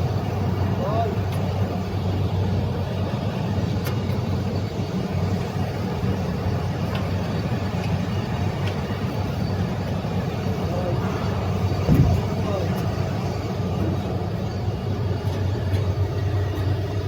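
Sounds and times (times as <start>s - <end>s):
air conditioning machinery hum: 0.0s - 17.0s.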